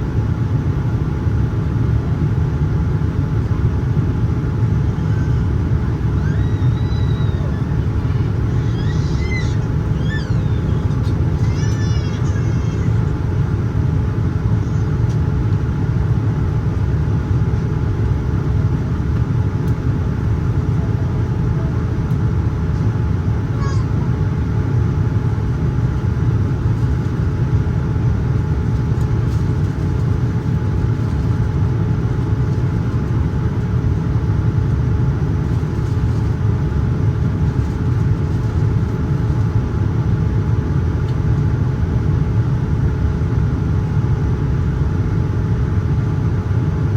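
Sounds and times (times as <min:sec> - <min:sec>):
airliner cabin engine roar: 0:00.0 - 0:46.9
faint steady hum: 0:00.0 - 0:46.9.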